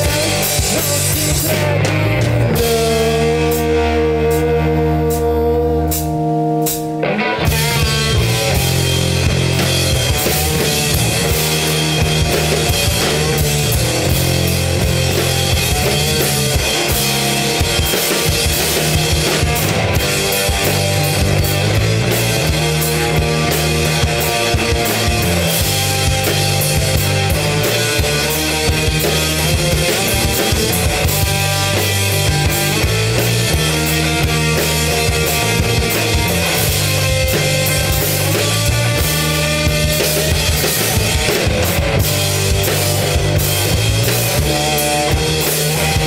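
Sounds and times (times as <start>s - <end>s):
rock band playing: 0.0s - 46.0s.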